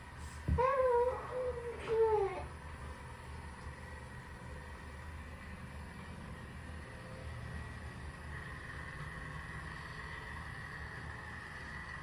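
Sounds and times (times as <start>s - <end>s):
toy train motor whine: 0.8s - 12.0s.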